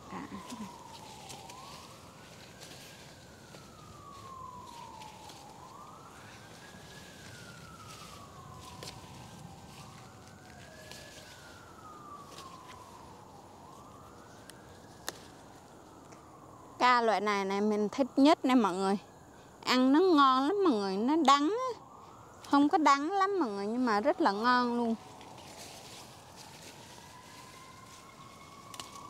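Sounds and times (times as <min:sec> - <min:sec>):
emergency siren wailing: 0:00.0 - 0:29.0.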